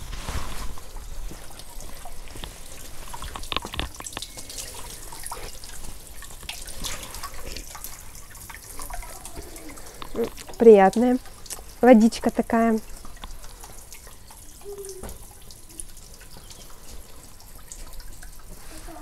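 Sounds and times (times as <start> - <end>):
spring water trickling: 0.0 - 19.0
water drips: 0.1 - 19.0.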